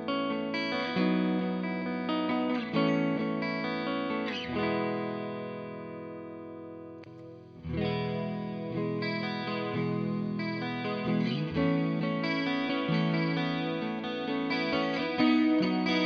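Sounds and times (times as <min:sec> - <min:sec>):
electric guitar chords: 0:00.0 - 0:16.0.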